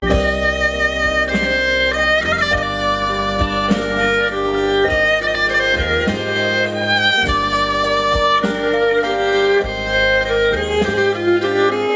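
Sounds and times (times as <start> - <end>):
instrumental music with violin: 0.0 - 11.9.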